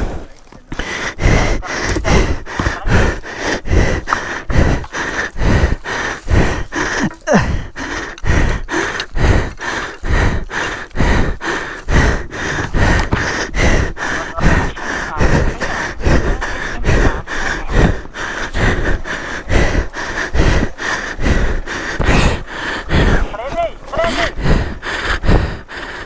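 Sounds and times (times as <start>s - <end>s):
person breathing heavily: 0.0s - 26.0s.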